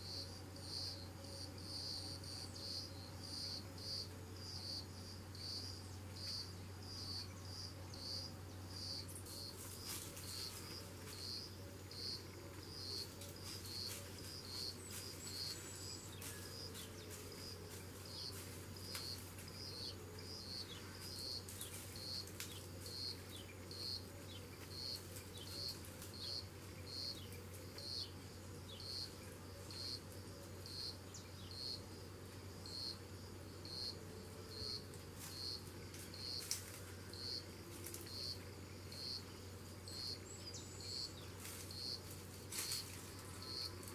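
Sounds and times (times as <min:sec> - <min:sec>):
insect chirping: 0:00.0 - 0:43.9.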